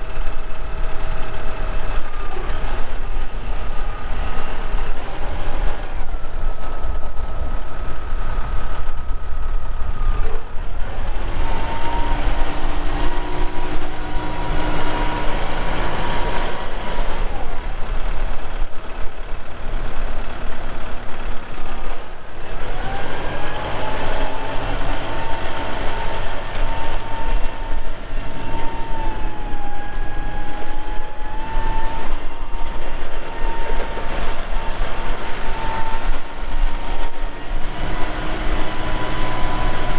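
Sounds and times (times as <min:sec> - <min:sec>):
steady mechanical whine: 0:00.0 - 0:39.9
tractor diesel engine running: 0:00.0 - 0:39.9.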